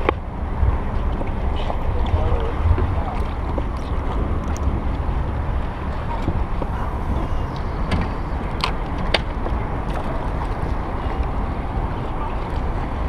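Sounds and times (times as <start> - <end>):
boat low rumble: 0.0 - 13.0
wind buffeting microphone: 0.0 - 13.0.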